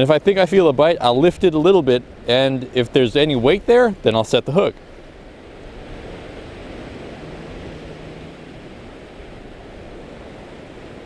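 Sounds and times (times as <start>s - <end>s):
ocean surf breaking on rocks: 0.0s - 11.0s.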